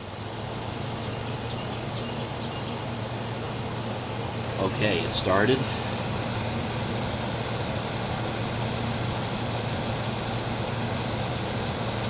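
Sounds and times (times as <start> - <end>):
compressor humming: 0.0 - 12.0
fan rushing air: 0.0 - 12.0.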